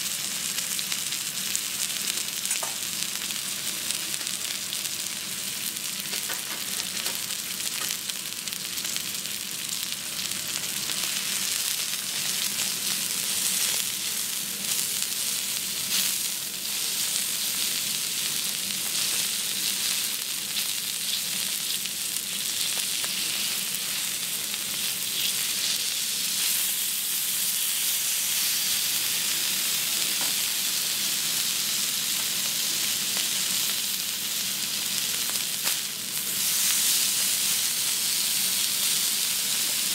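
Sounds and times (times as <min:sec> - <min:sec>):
steak sizzling on griddle: 0:00.0 - 0:39.9.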